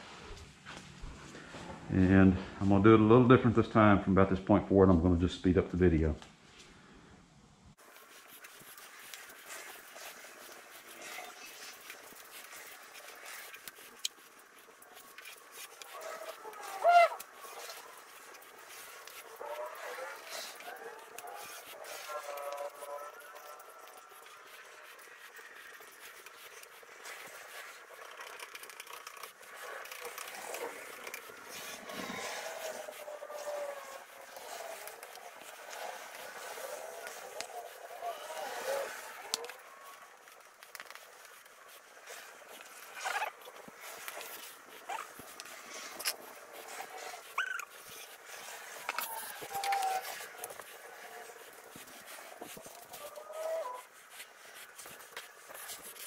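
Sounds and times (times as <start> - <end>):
plastic spreader scraping epoxy: 7.8 - 56.0
high-pitched sliding squeaks: 8.2 - 56.0.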